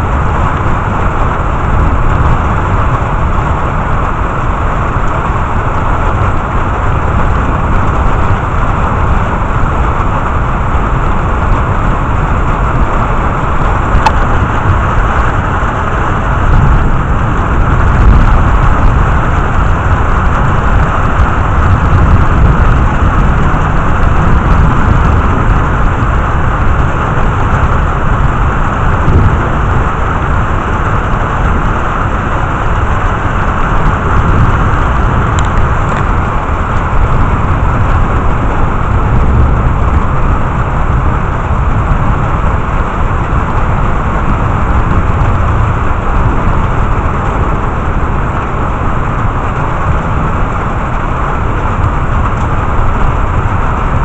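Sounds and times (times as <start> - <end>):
heavy rain: 0.0 - 54.0
low thunder rumble: 0.0 - 54.0.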